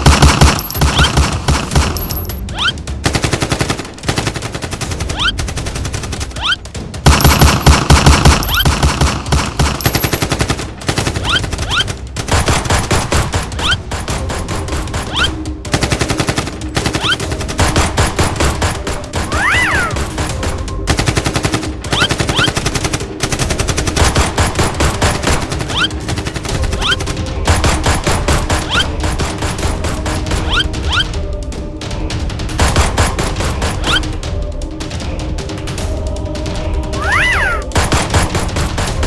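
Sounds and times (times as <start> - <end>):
rapid toy gunfire: 0.0 - 30.8, 32.6 - 34.1, 37.7 - 39.0.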